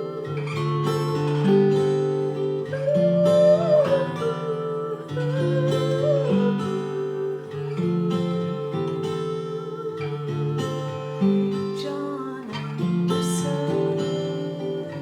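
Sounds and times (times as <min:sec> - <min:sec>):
wavering melody line: 0:00.0 - 0:12.8
acoustic guitar chords: 0:00.0 - 0:15.0.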